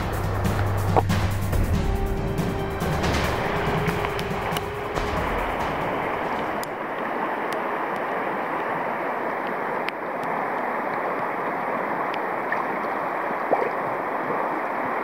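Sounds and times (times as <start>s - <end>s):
river rapid rushing: 0.0s - 15.0s.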